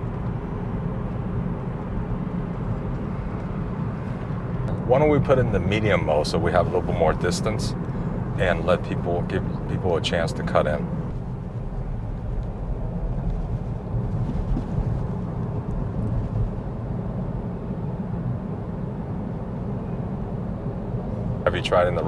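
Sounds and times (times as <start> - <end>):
road and tyre rumble in car: 0.0 - 22.0.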